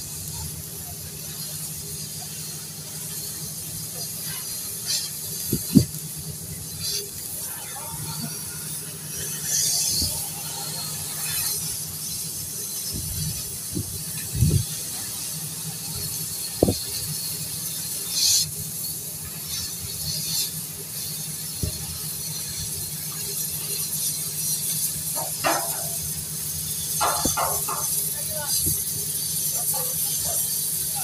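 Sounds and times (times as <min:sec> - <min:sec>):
cutting torch hissing: 0:00.0 - 0:31.0.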